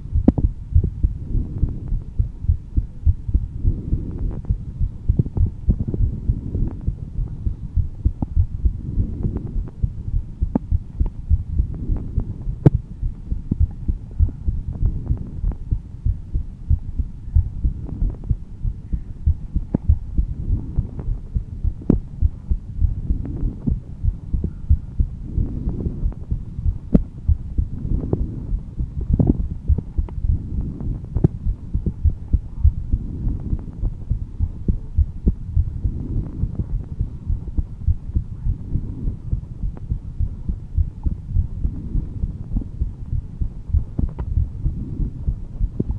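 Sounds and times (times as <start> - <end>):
heartbeat thumps: 0.0 - 45.9.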